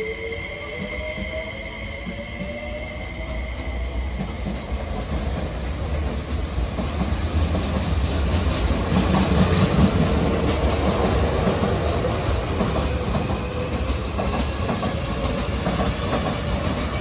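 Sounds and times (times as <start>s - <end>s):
electric train pulling out: 0.0s - 17.0s.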